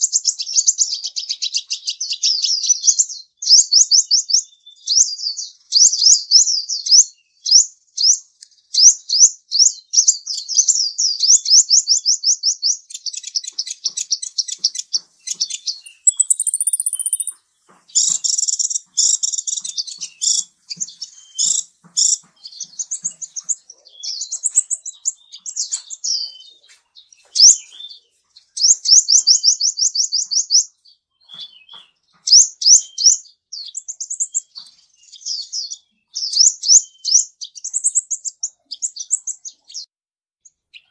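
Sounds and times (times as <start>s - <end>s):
bird trills and chirps: 0.0s - 40.9s.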